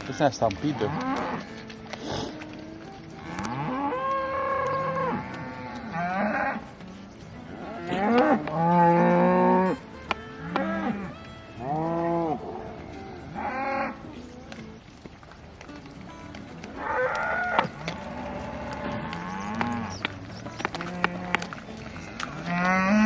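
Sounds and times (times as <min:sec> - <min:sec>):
cattle mooing: 0:00.0 - 0:06.7, 0:07.5 - 0:14.2, 0:16.6 - 0:23.0.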